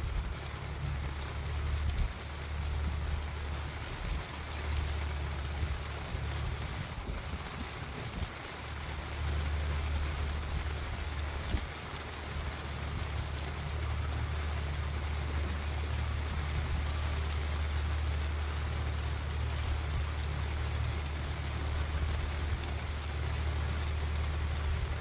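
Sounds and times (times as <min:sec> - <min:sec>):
rain falling on a lake: 0:00.0 - 0:25.0.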